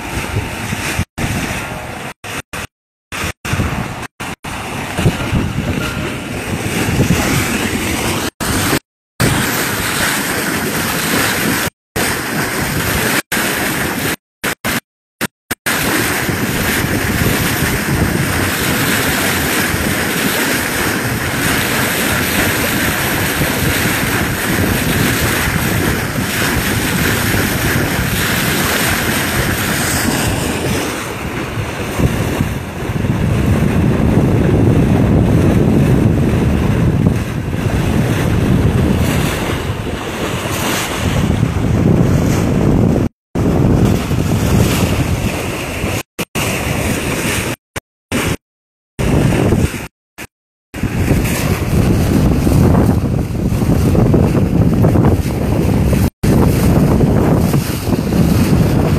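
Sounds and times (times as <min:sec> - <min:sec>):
wind buffeting microphone: 0:00.0 - 0:14.2, 0:15.7 - 0:47.6, 0:49.0 - 0:49.9, 0:50.7 - 0:58.9
water rushing along boat hull: 0:00.0 - 0:58.9.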